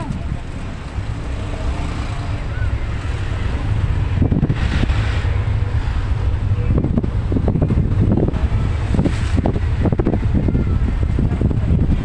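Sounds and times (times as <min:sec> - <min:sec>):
minibus rumbling on road: 0:00.0 - 0:12.0
wind buffeting microphone: 0:00.0 - 0:12.0.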